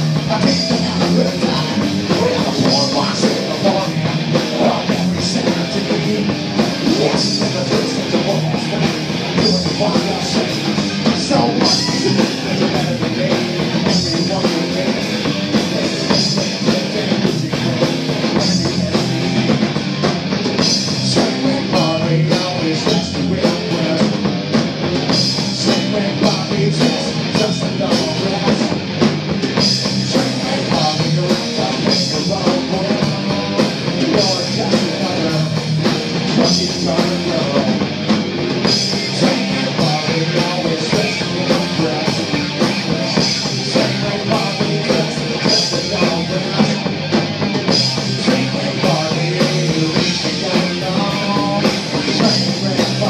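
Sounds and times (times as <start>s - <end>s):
man singing into microphone: 0.0s - 19.3s, 20.9s - 28.8s, 30.0s - 37.8s, 38.8s - 47.0s, 47.8s - 53.0s
drum kit steady beat: 0.0s - 53.0s
electric guitars: 0.0s - 53.0s.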